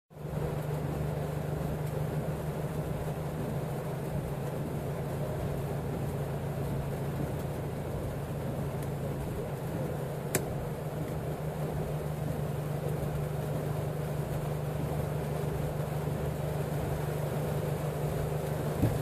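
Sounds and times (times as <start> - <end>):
vehicle engine running: 0.2 - 19.0.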